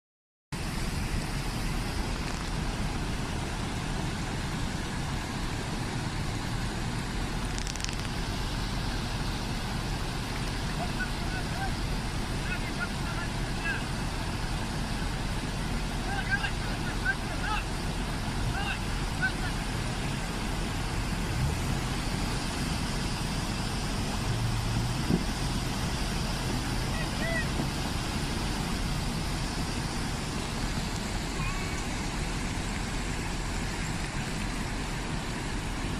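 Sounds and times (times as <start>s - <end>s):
floodwater rushing: 0.6s - 35.9s.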